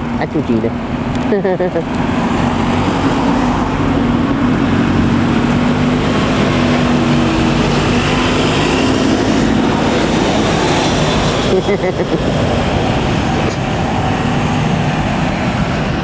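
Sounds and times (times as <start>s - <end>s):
large engine droning: 0.0s - 16.0s.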